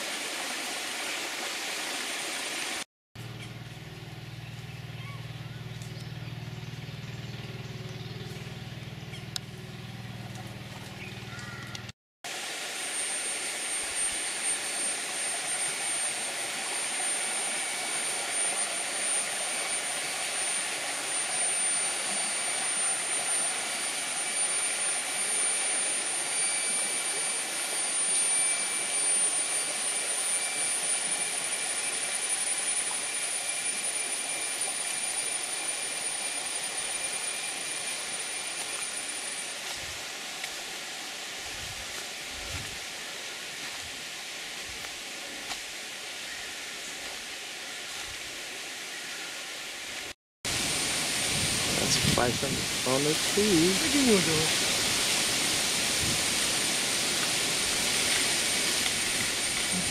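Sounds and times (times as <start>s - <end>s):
cicadas droning: 0.5s - 59.9s.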